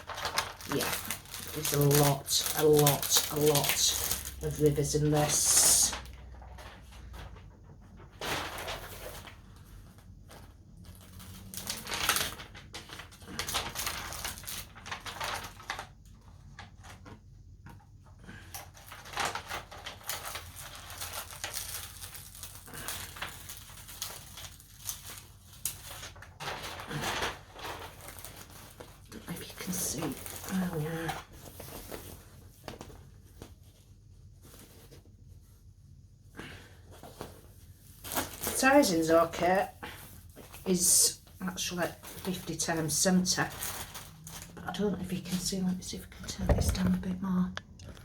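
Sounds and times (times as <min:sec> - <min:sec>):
canvas rustling and handling: 0:00.0 - 0:47.0.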